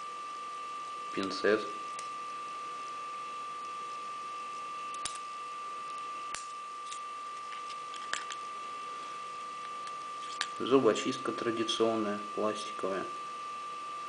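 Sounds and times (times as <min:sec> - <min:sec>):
steady high-pitched whine: 0:00.0 - 0:14.0.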